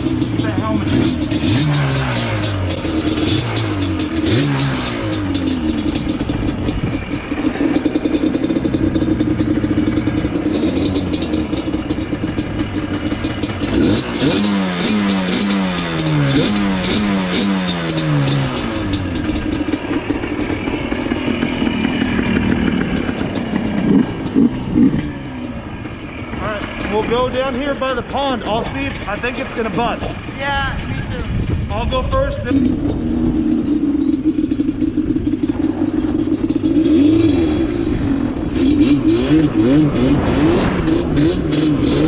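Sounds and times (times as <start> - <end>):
two-stroke engine revving: 0.0 - 42.0.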